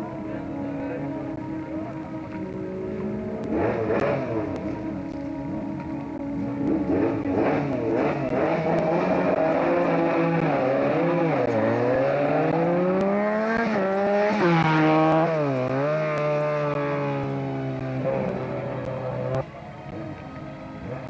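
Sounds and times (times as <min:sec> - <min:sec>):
rally car engine revving: 0:01.2 - 0:20.2.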